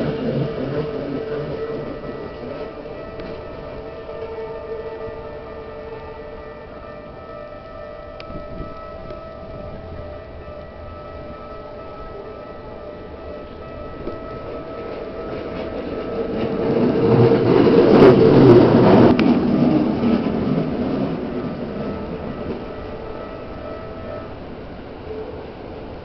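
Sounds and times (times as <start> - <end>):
crossing warning bell ringing: 0.0 - 26.0
train wheels rumbling on rails: 0.0 - 26.0.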